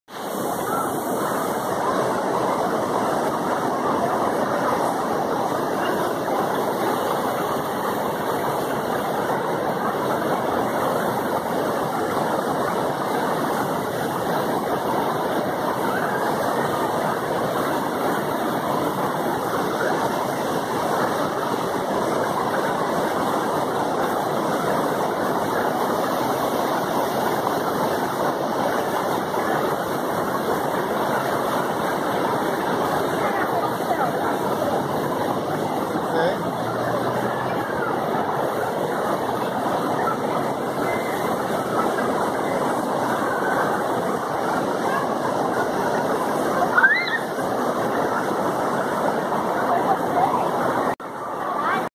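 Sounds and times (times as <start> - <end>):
river rapids rushing over boulders: 0.1 - 51.9.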